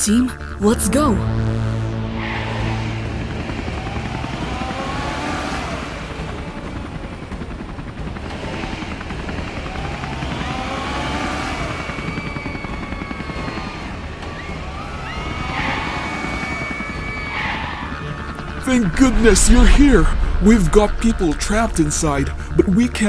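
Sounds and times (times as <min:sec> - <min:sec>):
cartoon helicopter rotor chopping: 0:00.0 - 0:23.0
sirens wailing: 0:00.6 - 0:23.0.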